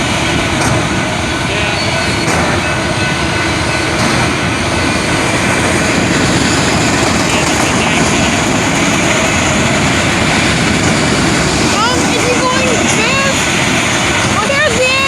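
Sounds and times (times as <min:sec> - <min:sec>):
train rolling over track: 0:00.0 - 0:15.0.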